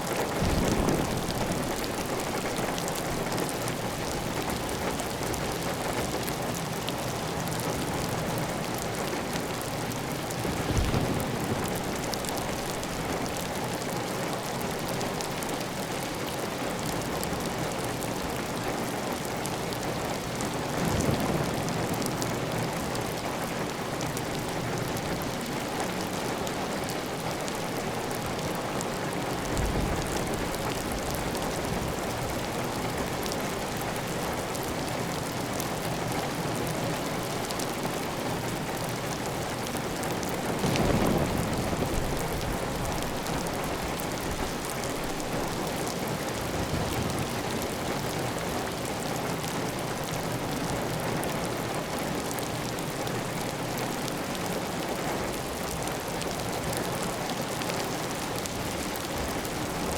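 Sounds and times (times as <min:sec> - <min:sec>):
heavy rain on a tile roof: 0:00.0 - 0:59.9.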